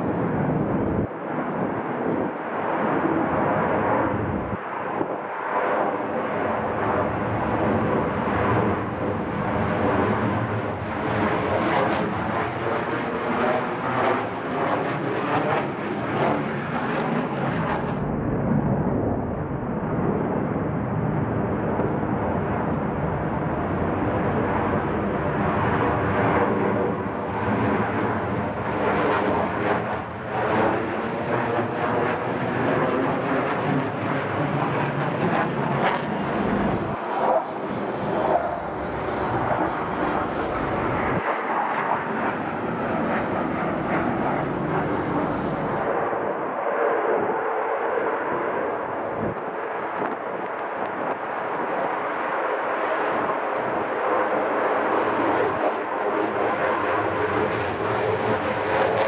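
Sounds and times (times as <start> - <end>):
fighter jets engine roar: 0.0 - 59.0.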